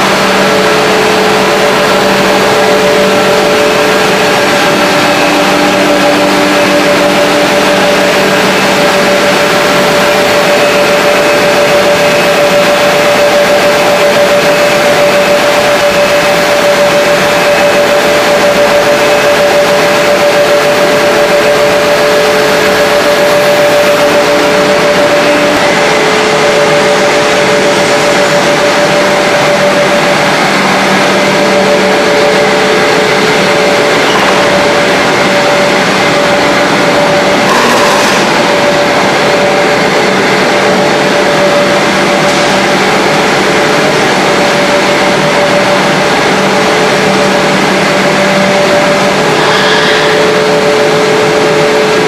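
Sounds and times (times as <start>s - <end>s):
machinery running: 0.0s - 52.0s
two-note machine hum: 0.0s - 52.0s.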